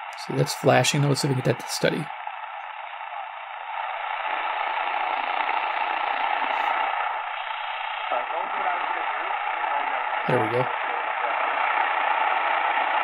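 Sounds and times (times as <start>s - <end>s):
faint radio station audio: 0.0s - 2.1s, 4.0s - 13.0s
radio static hiss: 0.0s - 13.0s.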